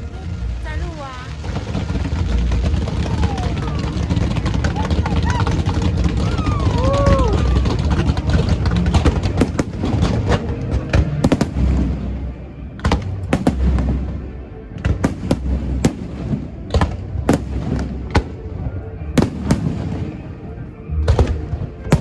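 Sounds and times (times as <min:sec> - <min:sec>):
fireworks cracks and pops: 0:00.0 - 0:14.1, 0:14.8 - 0:18.4
low booms and rumble: 0:00.0 - 0:22.0.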